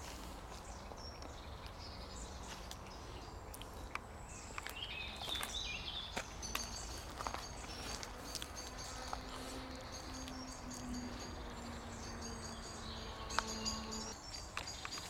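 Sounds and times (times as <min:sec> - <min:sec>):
faint steady hum: 0:00.0 - 0:14.4
footsteps through grass: 0:00.0 - 0:15.0.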